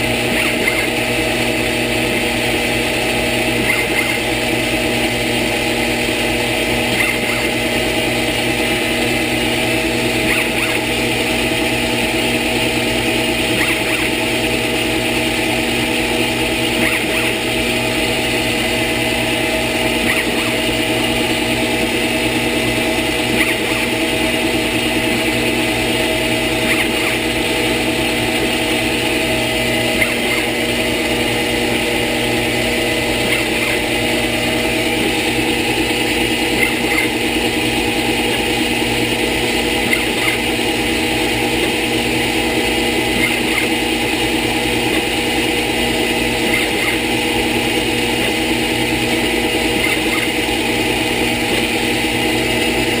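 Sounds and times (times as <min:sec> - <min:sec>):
lathe motor humming and whining: 0:00.0 - 0:53.0.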